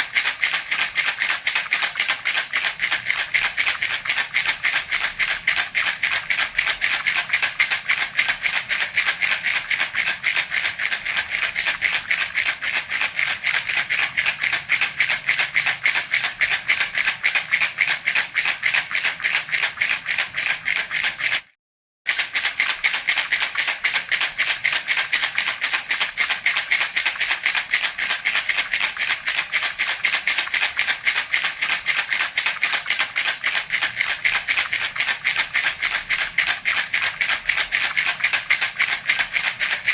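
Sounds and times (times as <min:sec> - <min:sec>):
baby rattle shaken rapidly: 0:00.0 - 0:39.9.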